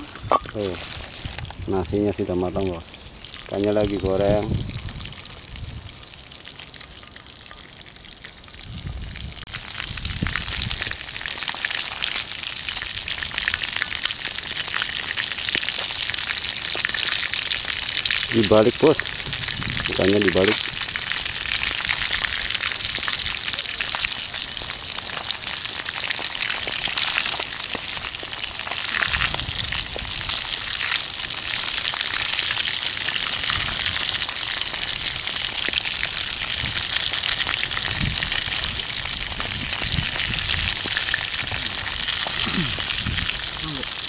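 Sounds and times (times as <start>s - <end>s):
hot oil sizzling and crackling: 0.0s - 44.0s.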